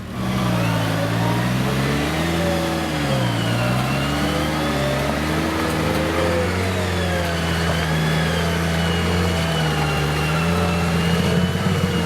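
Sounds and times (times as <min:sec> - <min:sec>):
vehicle engine running under load: 0:00.0 - 0:12.0.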